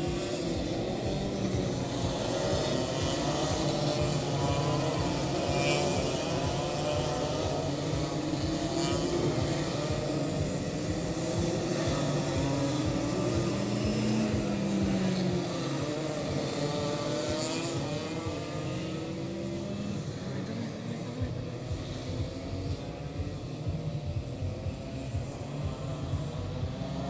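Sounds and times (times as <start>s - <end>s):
racing kart engines: 0.0s - 27.0s.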